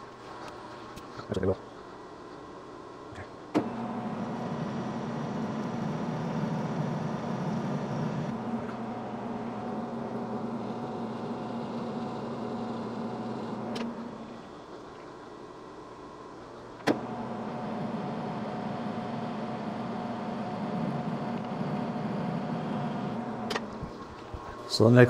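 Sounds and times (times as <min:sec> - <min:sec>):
lathe motor humming: 0:03.6 - 0:24.6.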